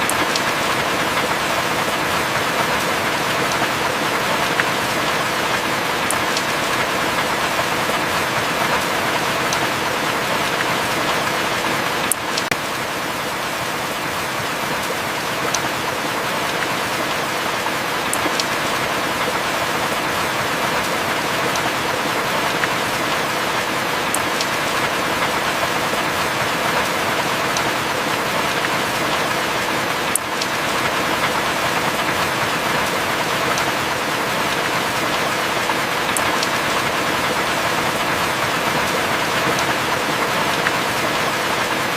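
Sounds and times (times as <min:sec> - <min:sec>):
raindrop ticks: 0:00.0 - 0:12.6, 0:16.4 - 0:19.5, 0:20.9 - 0:29.3, 0:30.1 - 0:41.9.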